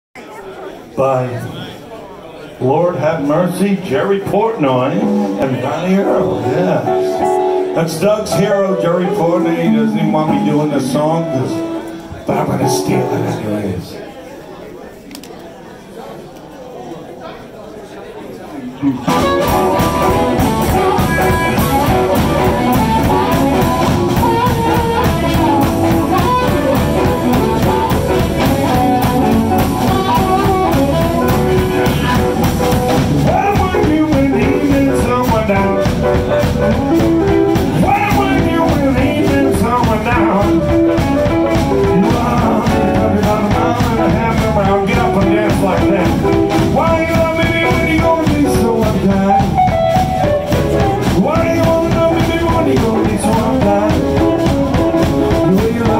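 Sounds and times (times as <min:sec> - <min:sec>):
blues band playing: 0:02.6 - 0:14.1, 0:18.8 - 0:55.9
bending lead guitar notes: 0:04.8 - 0:13.9, 0:18.8 - 0:55.9.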